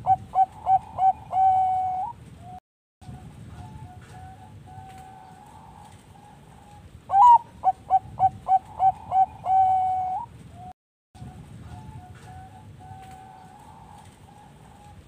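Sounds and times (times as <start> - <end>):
dove singing: 0.0 - 2.2, 3.0 - 10.3, 11.2 - 15.0
faint dove cooing: 0.0 - 2.6, 3.5 - 15.0.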